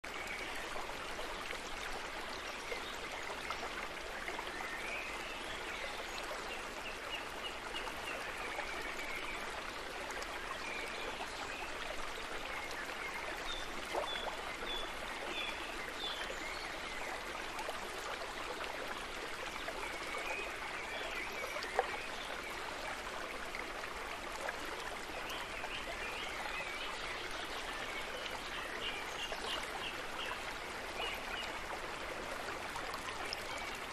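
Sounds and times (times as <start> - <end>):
stream running water: 0.0 - 33.9.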